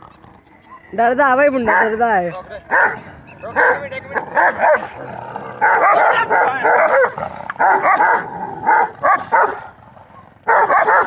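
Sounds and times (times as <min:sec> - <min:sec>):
dog barking and yipping: 0:01.6 - 0:11.0.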